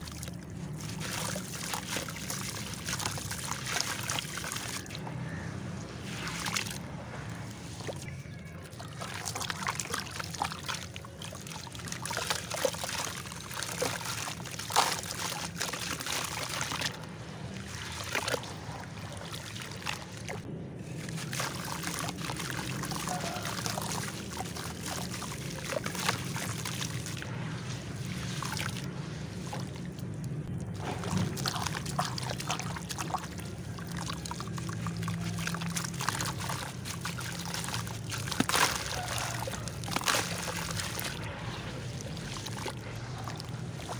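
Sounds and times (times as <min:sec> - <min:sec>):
water sloshing and trickling: 0:00.0 - 0:43.9
wet clay crackling: 0:00.0 - 0:43.9.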